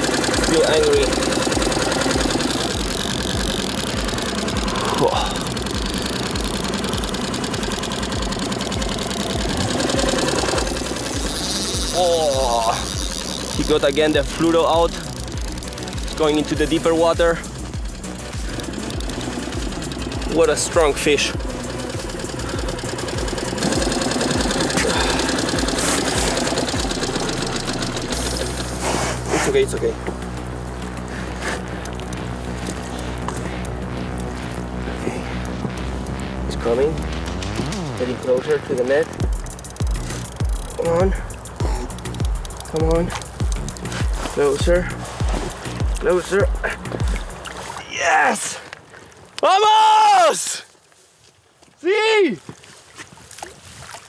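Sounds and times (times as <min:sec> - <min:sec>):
low knocking beat: 0:00.0 - 0:47.5
fishing reel drag clicking: 0:00.0 - 0:47.8
outboard motor idling: 0:00.0 - 0:47.8.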